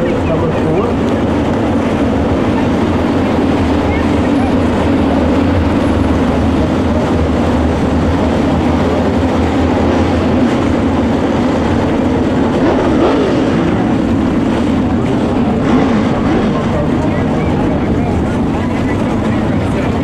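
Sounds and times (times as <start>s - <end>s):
race car engines roaring: 0.0s - 20.0s.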